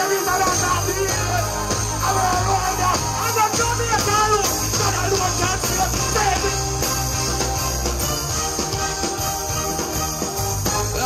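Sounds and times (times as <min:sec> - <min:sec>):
heavy bass line: 0:00.3 - 0:11.0.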